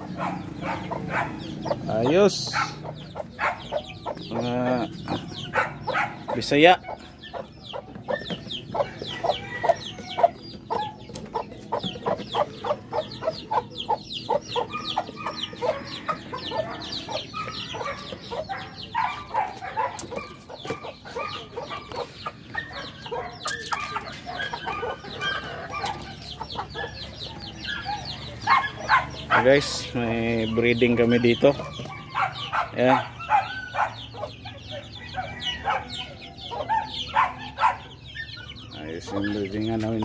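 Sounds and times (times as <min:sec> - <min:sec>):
chickens clucking: 0:00.0 - 0:40.0
chicks peeping: 0:00.0 - 0:40.0.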